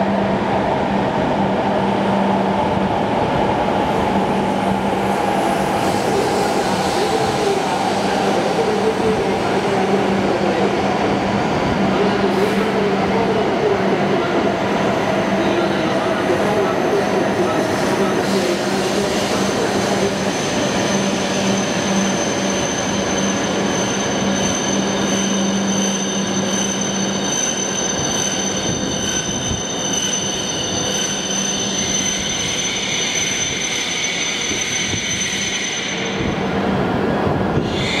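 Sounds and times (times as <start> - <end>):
train low hum: 0.0 - 38.0.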